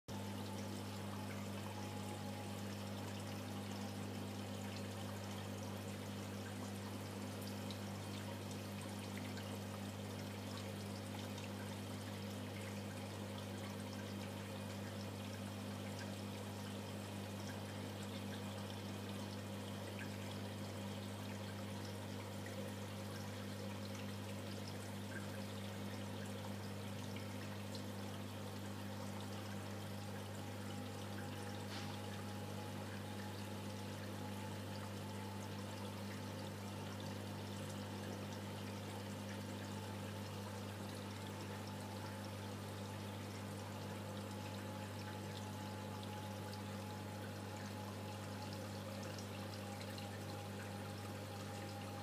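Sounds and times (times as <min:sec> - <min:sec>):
constant low hum: 0:00.0 - 0:52.0
water trickling and pouring: 0:00.1 - 0:52.0.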